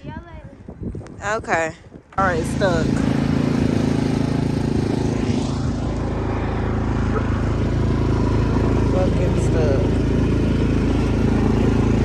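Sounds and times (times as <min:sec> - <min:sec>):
car engine at raised revs: 0:02.2 - 0:12.0.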